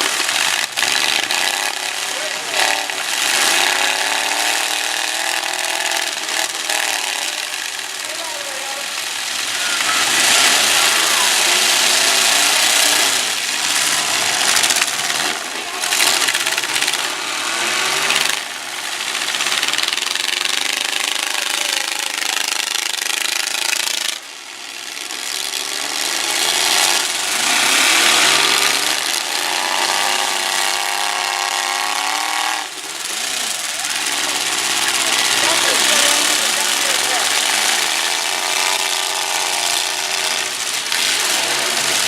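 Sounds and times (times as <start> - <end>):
unmuffled truck engines revving: 0.0 - 42.0.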